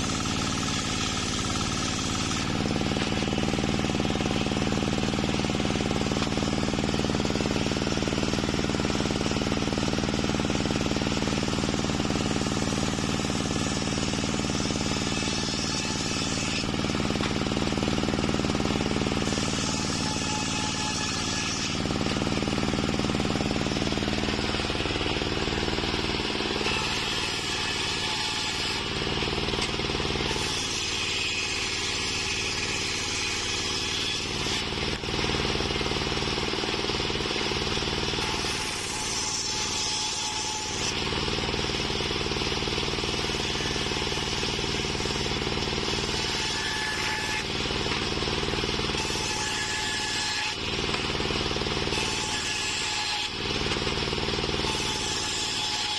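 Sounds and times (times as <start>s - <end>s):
table saw cutting wood: 0.0s - 55.9s.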